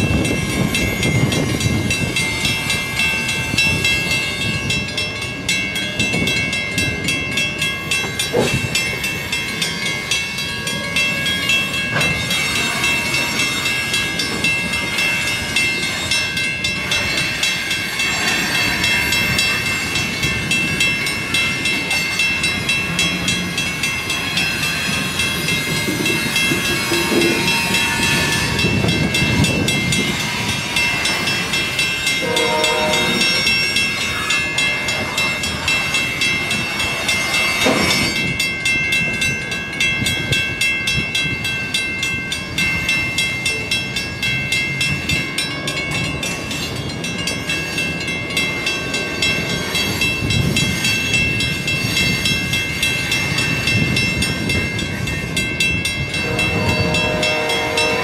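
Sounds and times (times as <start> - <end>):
steady high ringing: 0.0 - 58.0
train wheels clattering on rails: 0.0 - 58.0.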